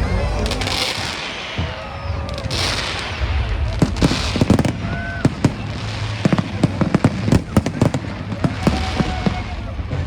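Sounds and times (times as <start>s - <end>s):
firework hissing burst: 0.0s - 9.8s
firework bangs and crackling pops: 0.0s - 10.0s
firework whistle: 0.0s - 10.0s.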